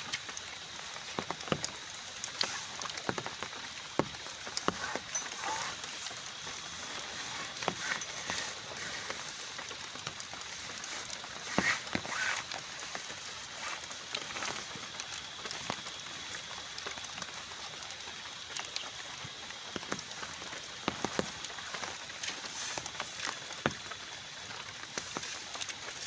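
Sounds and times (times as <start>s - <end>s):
heavy raindrops tapping: 0.0s - 26.0s
steady rain: 0.0s - 26.0s.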